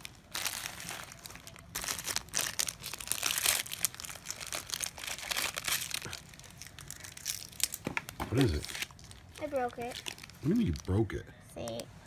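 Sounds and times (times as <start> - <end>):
toy wrapping rustling and crackling: 0.0 - 11.9.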